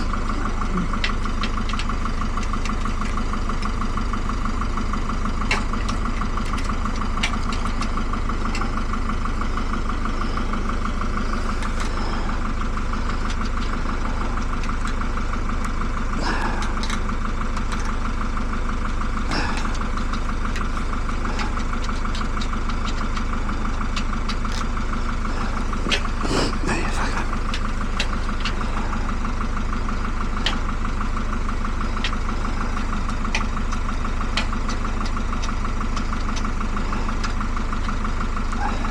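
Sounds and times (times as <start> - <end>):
motor humming: 0.0 - 38.9.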